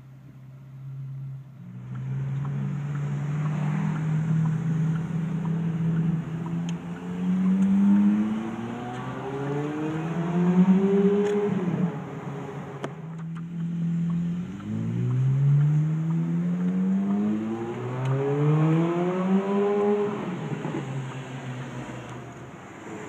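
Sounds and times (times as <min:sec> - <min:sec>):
sports car engine accelerating: 0:00.0 - 0:23.0.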